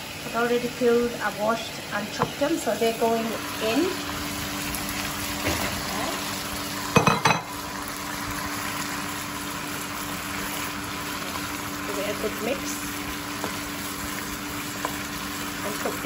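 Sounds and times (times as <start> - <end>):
curry sizzling in a frying pan: 0.0 - 16.0.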